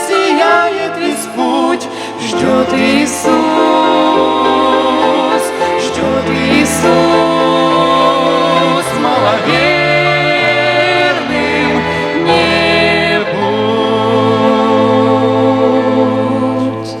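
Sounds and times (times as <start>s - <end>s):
violin: 0.0s - 17.0s
voices singing worship song: 0.0s - 17.0s.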